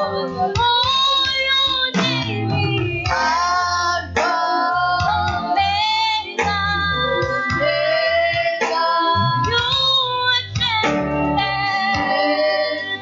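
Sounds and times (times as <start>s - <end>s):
instrumental backing with bass: 0.0s - 13.0s
woman singing: 0.0s - 13.0s.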